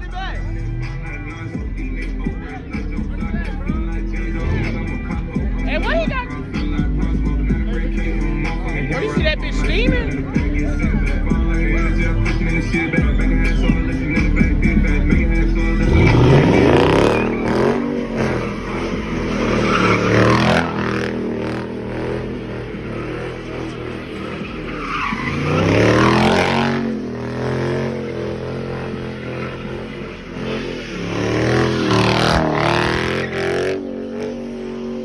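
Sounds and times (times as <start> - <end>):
car engine revving hard: 0.4 - 35.0.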